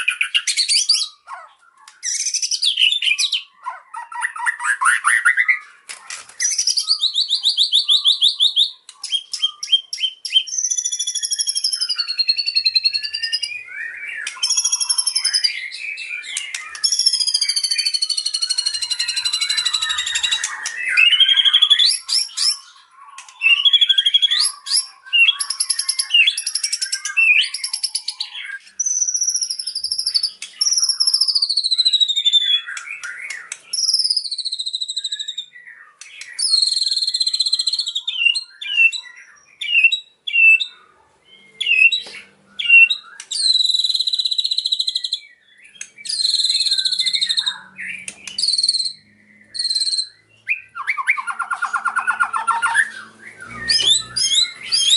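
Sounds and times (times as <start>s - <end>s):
songbird singing varied song: 0.0s - 54.9s.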